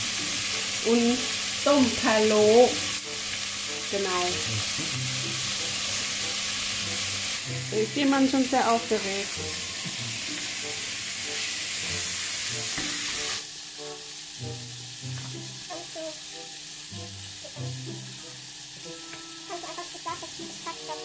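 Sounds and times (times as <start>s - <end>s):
pork sizzling in a pan: 0.0s - 21.0s.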